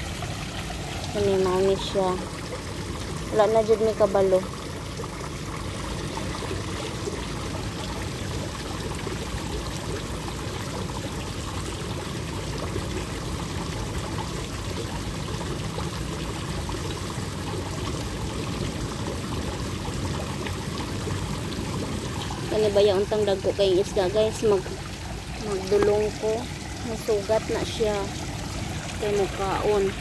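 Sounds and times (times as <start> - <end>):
water trickling into a pond: 0.0 - 30.0.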